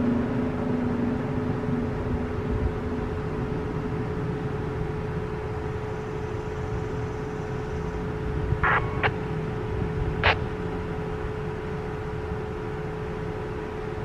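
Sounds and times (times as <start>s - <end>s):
faint constant hum: 0.0s - 14.0s
background rumble: 0.7s - 13.4s.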